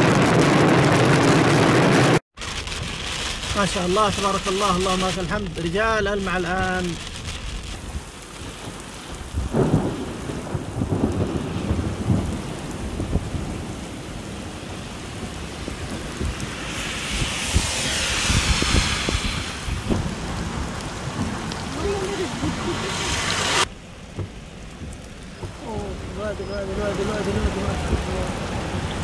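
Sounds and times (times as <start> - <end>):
heavy rain on asphalt: 0.0 - 29.0.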